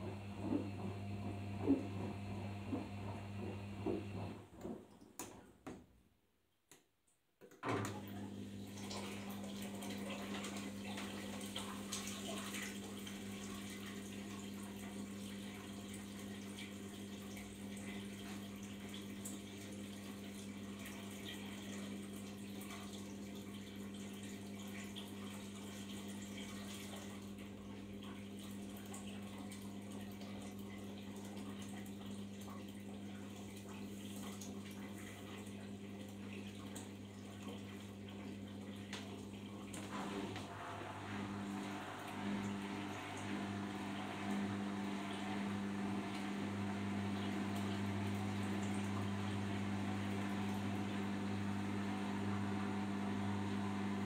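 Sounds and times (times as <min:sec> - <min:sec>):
water running through washing machine: 0:00.0 - 0:05.8, 0:07.4 - 0:54.0.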